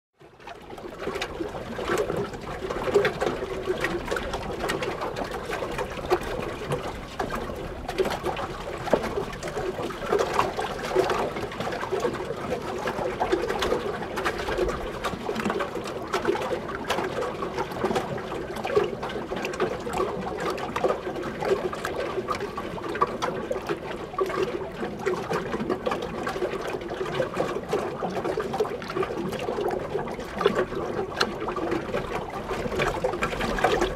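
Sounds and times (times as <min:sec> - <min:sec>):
small waves lapping against pier: 0:00.2 - 0:33.9.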